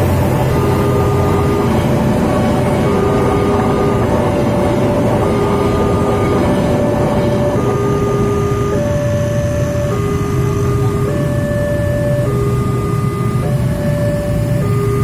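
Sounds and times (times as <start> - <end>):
level-crossing two-tone alarm: 0.0 - 15.0
loud steady rumble: 0.0 - 15.0.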